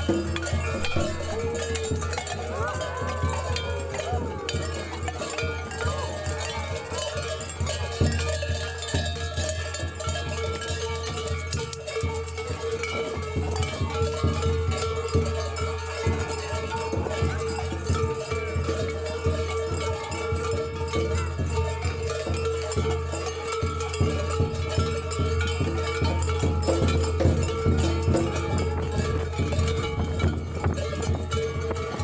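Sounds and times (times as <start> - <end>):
cowbells clanking and jangling: 0.0 - 32.0.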